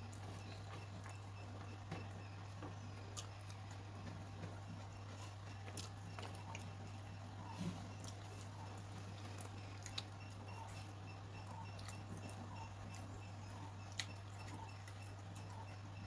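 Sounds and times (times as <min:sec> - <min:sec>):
person chewing food: 0:00.0 - 0:16.0
steady low hum: 0:00.0 - 0:16.0.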